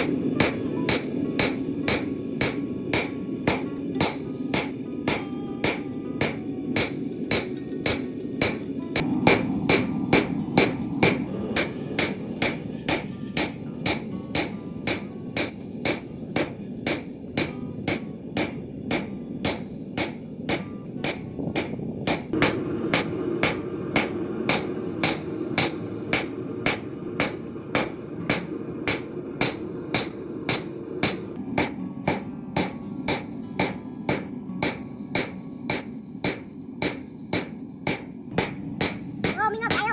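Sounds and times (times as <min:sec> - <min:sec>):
hammer striking steel on anvil: 0:00.0 - 0:39.9.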